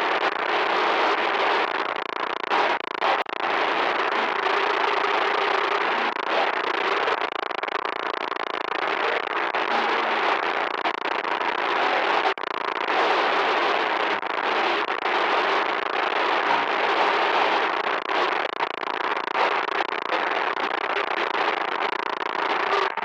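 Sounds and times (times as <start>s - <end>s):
harsh crackling static: 0.0s - 23.0s.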